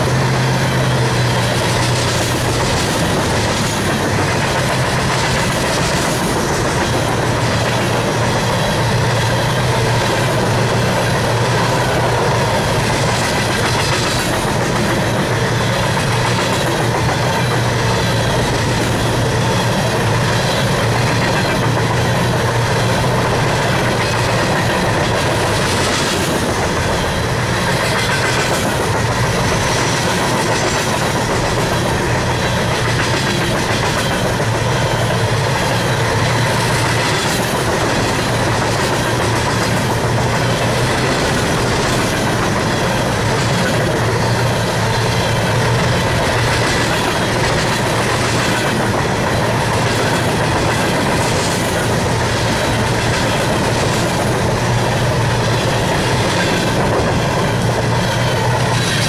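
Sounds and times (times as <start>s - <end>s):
train cars rumbling past: 0.0s - 59.0s
wheels clacking over rails: 0.0s - 59.0s.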